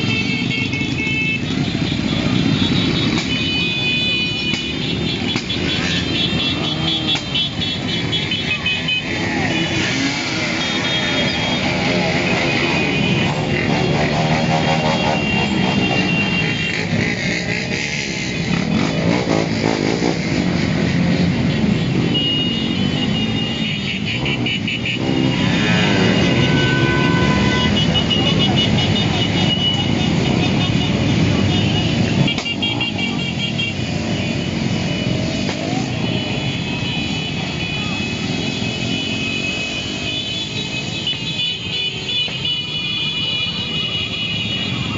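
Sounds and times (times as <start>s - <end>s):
motorcycle engines running: 0.0s - 41.4s.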